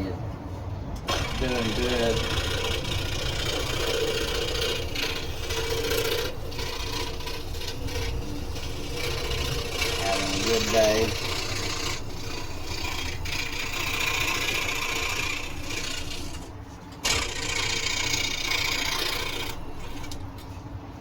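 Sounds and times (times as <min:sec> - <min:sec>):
scroll saw cutting wood: 0:01.1 - 0:20.6.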